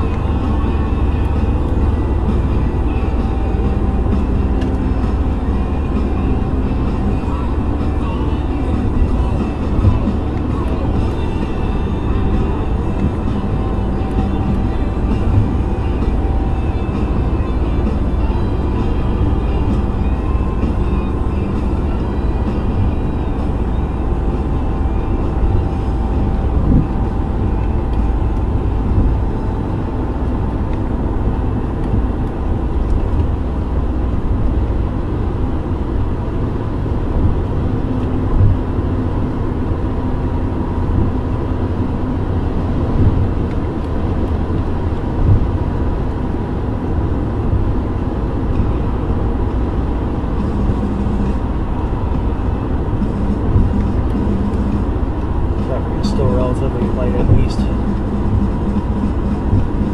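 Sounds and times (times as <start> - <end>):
tyres rumbling on pavement: 0.0 - 59.9.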